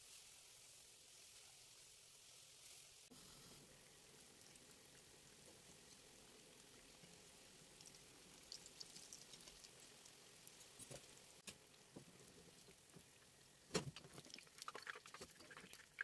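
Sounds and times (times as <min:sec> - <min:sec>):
pastries sizzling in oil: 0:00.0 - 0:16.0.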